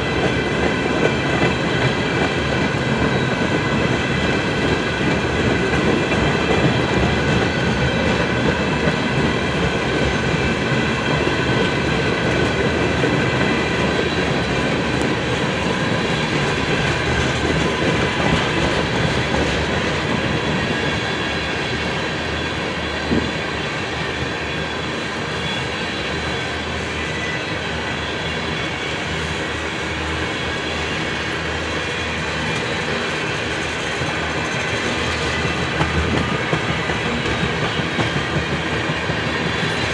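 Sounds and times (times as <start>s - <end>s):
freight train rolling past: 0.0s - 39.9s
high ringing from train wheels: 0.0s - 39.9s.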